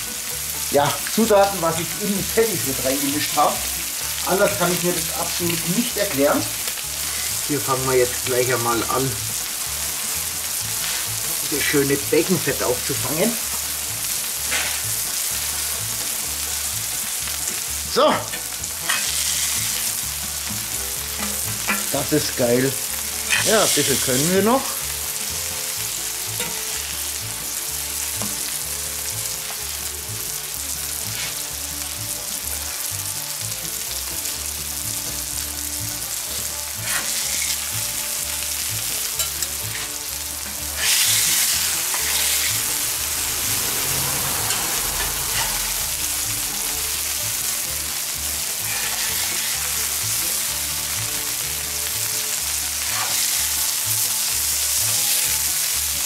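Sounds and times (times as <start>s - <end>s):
burger patties sizzling on griddle: 0.0s - 56.0s.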